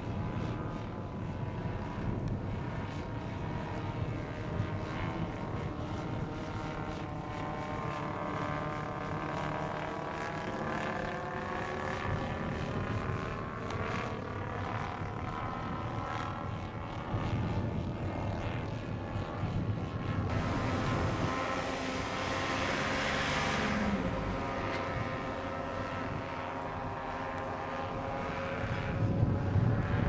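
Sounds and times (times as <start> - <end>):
model plane engines droning: 0.0 - 30.0.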